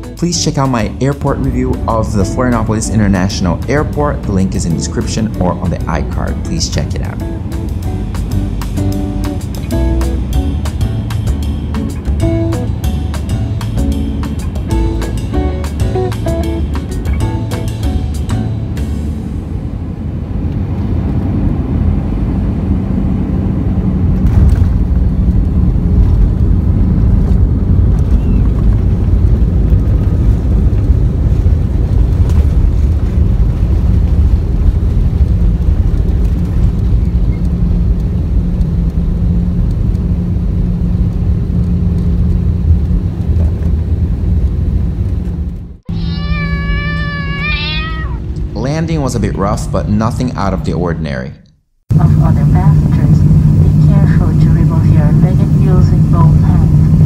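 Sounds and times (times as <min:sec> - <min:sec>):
airplane cabin engine rumble: 0:00.0 - 0:51.0, 0:51.6 - 0:57.0.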